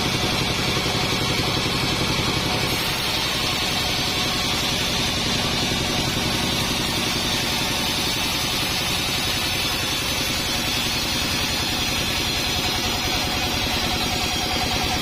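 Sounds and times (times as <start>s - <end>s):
sawmill machine drone: 0.0s - 15.0s.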